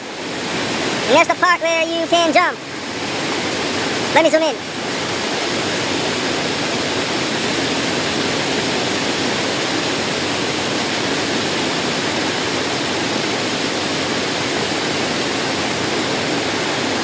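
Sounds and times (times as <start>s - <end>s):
water pouring over dam: 0.0s - 17.0s.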